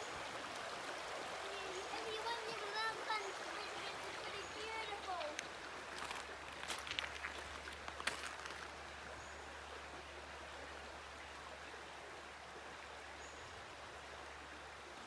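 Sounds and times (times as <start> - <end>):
creek water running over stones: 0.0 - 15.0.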